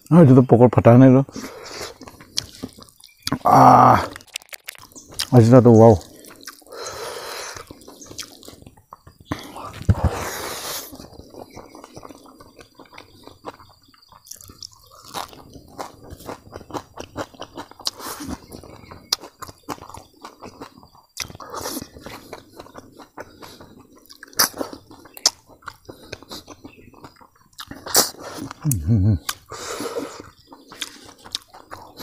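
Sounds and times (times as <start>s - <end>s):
man chewing with wet smacks: 1.3s - 32.0s.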